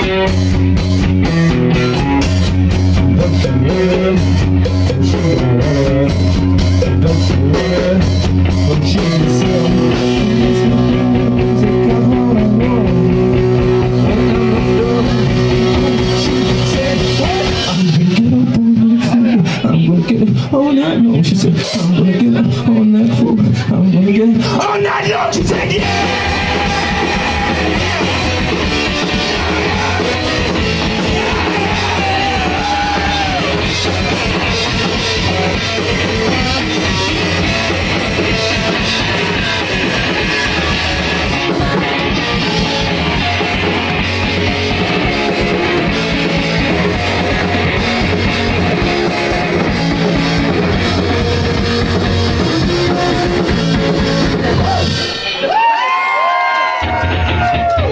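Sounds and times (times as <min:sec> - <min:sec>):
live rock band: 0:00.0 - 0:57.9
person singing: 0:03.1 - 0:20.4, 0:21.6 - 0:55.2.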